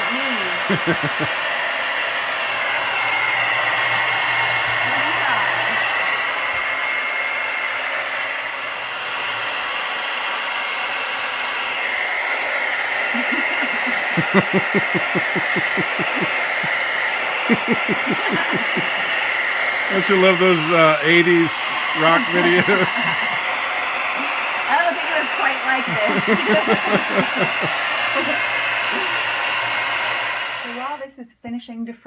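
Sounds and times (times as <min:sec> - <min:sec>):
hair dryer blowing with whine: 0:00.0 - 0:31.1.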